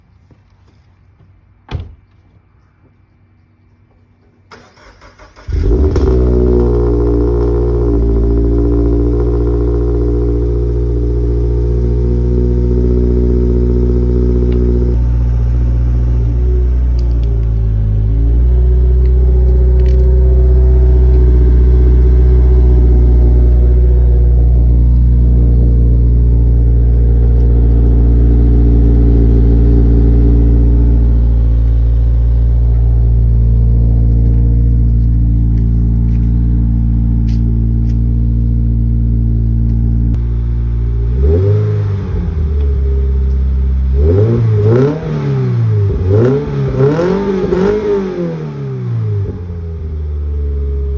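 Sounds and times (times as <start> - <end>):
car engine idling and revving: 4.5 - 50.9.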